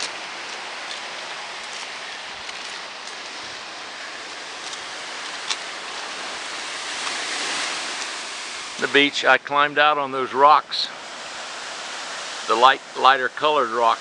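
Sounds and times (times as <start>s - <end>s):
ocean surf: 0.0s - 14.0s.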